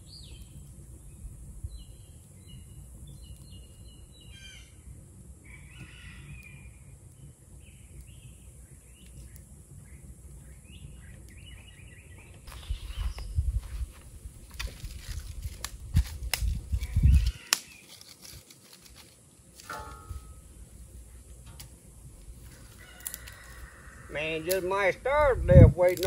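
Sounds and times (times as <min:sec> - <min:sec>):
songbirds chirping: 0:00.0 - 0:15.3, 0:16.5 - 0:26.0
low outdoor rumble: 0:00.0 - 0:17.3, 0:18.2 - 0:26.0.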